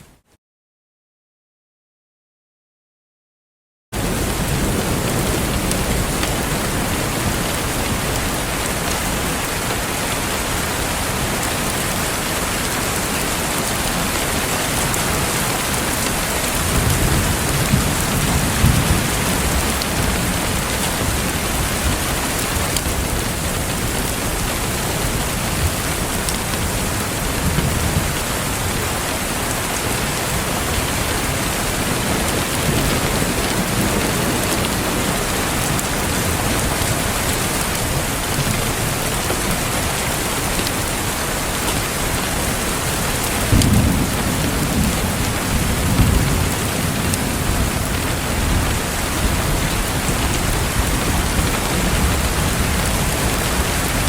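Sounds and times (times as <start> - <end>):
heavy rain falling: 4.0 - 54.0
thunder rumbling: 4.0 - 54.0.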